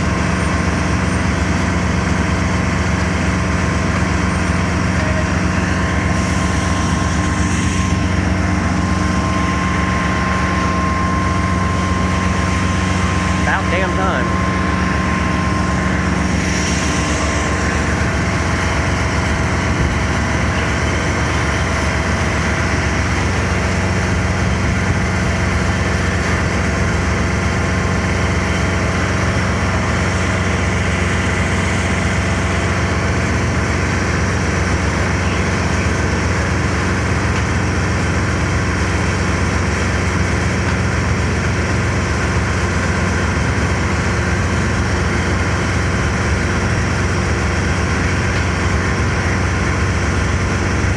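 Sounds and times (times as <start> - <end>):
heavy engine idling: 0.0 - 50.9.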